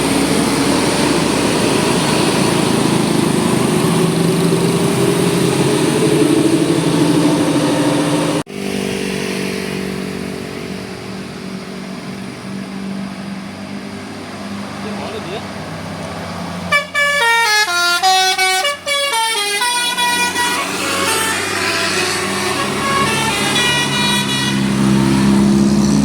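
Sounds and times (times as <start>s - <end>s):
steady engine drone: 0.0s - 26.0s
vehicle engines in traffic: 0.0s - 26.0s.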